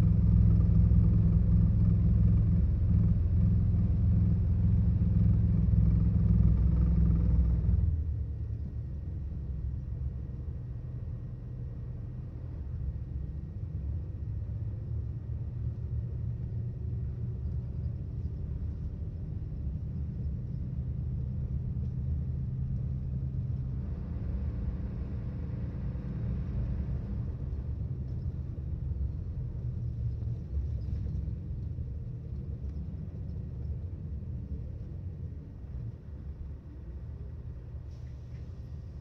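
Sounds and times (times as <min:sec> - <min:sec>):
bus diesel engine rumbling: 0:00.0 - 0:39.0.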